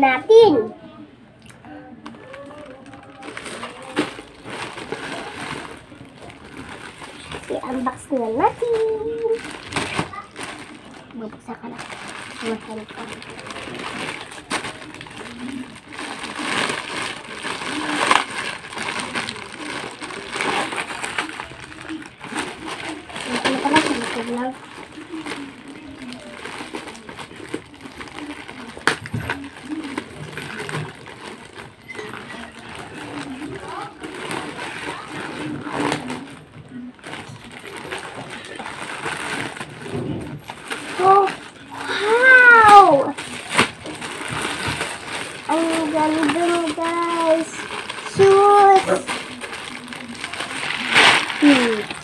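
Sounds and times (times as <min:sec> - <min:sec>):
plastic bag crinkling: 0:02.0 - 0:52.0.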